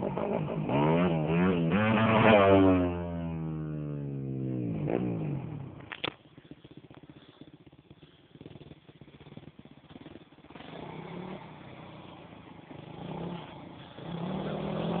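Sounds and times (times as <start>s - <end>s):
motocross motorcycle engine: 0.0s - 15.0s.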